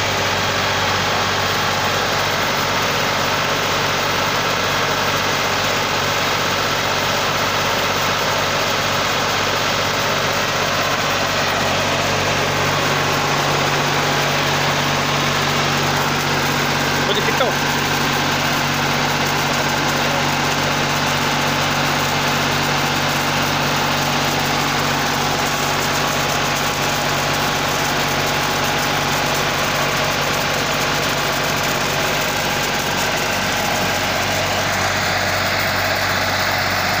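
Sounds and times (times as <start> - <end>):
tractor engine running steadily: 0.0 - 37.0.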